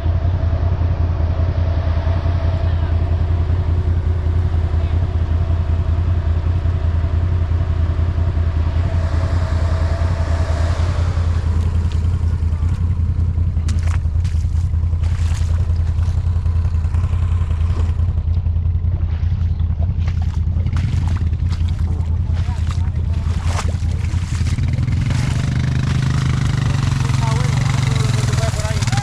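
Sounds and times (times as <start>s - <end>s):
off-road vehicle engine droning: 0.0s - 29.0s.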